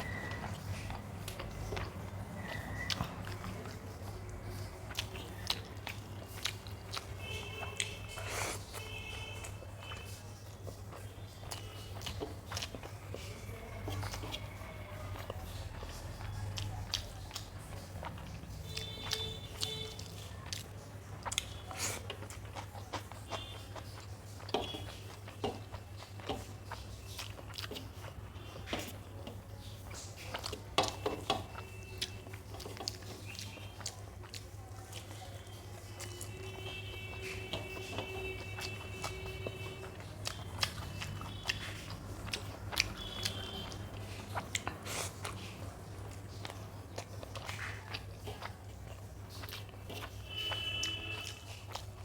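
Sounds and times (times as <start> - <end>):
soft chewing and mouth clicks: 0.0 - 52.0.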